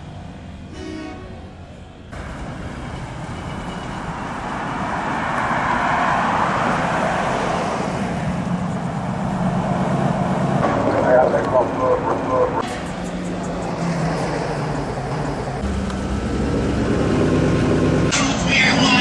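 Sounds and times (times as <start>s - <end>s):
vehicles driving past: 0.0s - 19.0s.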